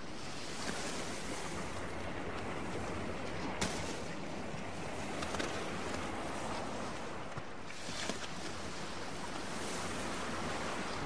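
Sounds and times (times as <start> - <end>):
heavy waves breaking: 0.0 - 11.0.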